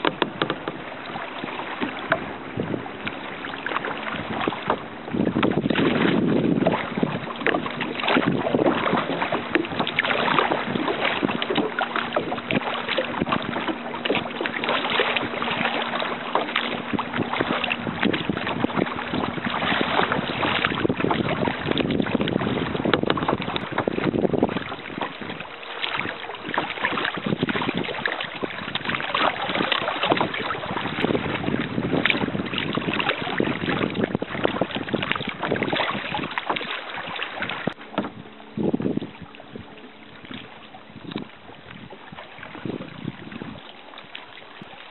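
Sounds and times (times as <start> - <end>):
paddle strokes splashing: 0.0 - 44.9
water slapping against hull: 0.0 - 44.9
wind buffeting microphone: 0.0 - 44.9.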